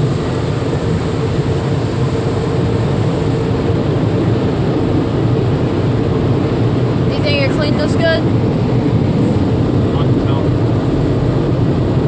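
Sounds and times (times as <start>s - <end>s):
car wash rushing rumble: 0.0s - 12.0s.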